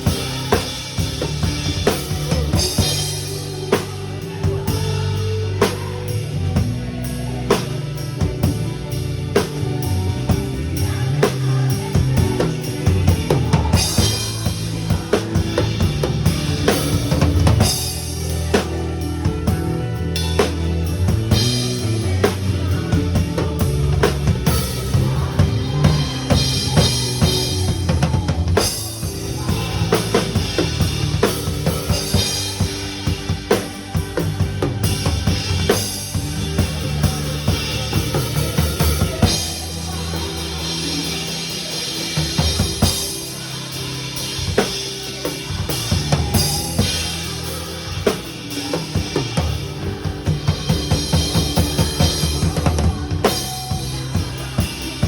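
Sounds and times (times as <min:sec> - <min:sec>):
drum kit playing: 0:00.0 - 0:55.0
worship song backing track: 0:00.0 - 0:55.0.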